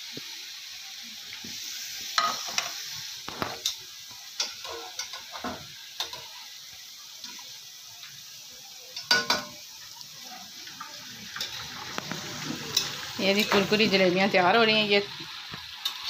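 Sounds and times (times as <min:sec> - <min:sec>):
dough sizzling in hot oil: 0:00.0 - 0:16.0.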